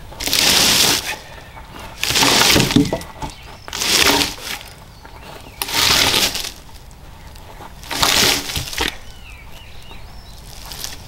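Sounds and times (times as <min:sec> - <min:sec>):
dry leaves and twigs crunching: 0:00.1 - 0:11.0.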